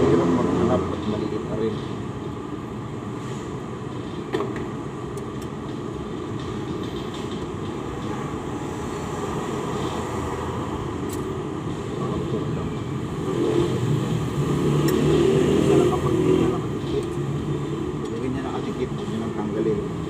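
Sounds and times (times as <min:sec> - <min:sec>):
motor vehicle rumbling: 0:00.0 - 0:20.0.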